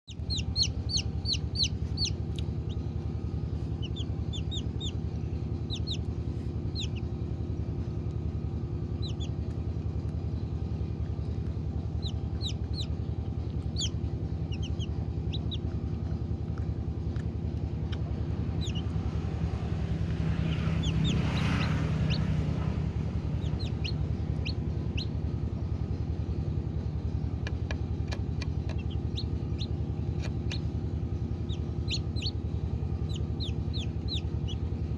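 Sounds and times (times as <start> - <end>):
poultry peeping: 0.1 - 34.9
steady low hum: 0.1 - 34.9.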